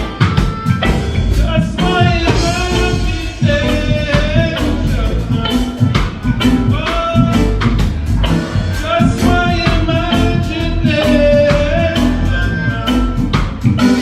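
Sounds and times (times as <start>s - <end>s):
deep bass: 0.0s - 14.0s
reggae band playing live: 0.0s - 14.0s
steady drums: 0.0s - 14.0s.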